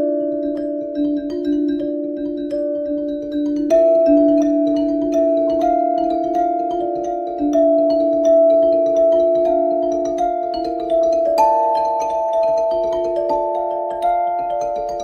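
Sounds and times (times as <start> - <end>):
music with sustained chords: 0.0 - 15.0.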